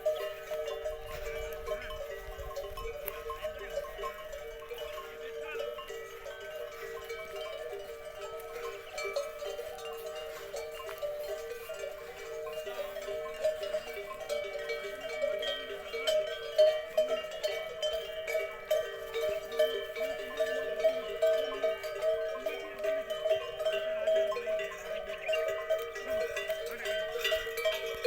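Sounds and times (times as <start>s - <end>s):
neck bells clanking: 0.0s - 28.0s.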